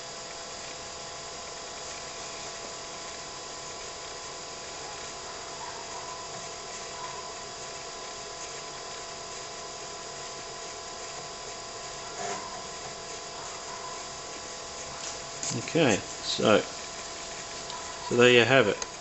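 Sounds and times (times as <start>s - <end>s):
computer fans whirring hum: 0.0s - 19.0s.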